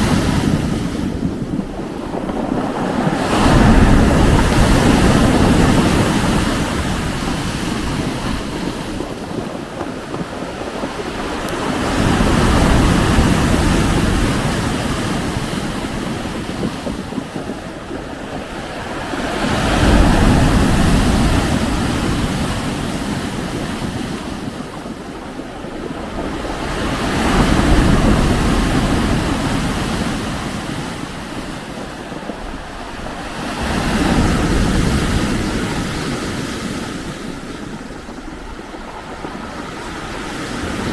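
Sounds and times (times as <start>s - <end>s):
waves breaking on shore: 0.0s - 40.9s
wind on microphone: 0.0s - 40.9s.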